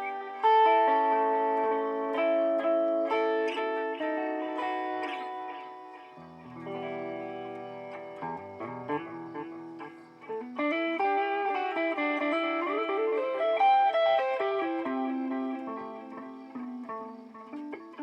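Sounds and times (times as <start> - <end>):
electric guitar with long echoes: 0.0 - 18.0.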